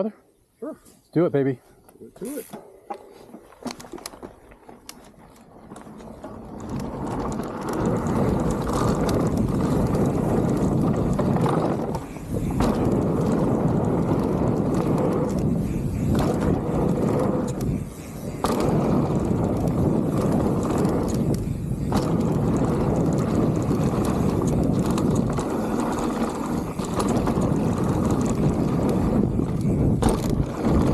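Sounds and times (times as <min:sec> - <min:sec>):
bike tyres rumbling over dirt: 0:02.7 - 0:30.9
wind buffeting microphone: 0:03.9 - 0:30.9.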